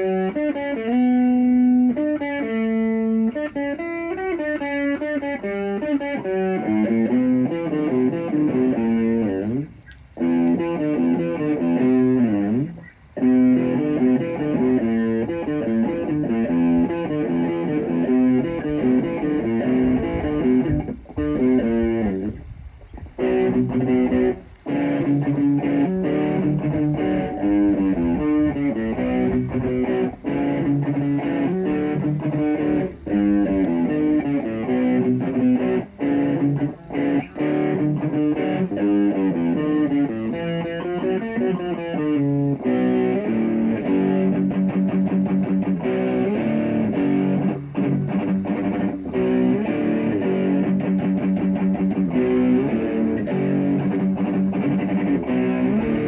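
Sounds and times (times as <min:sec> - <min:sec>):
guitar chords: 0:00.0 - 0:56.0.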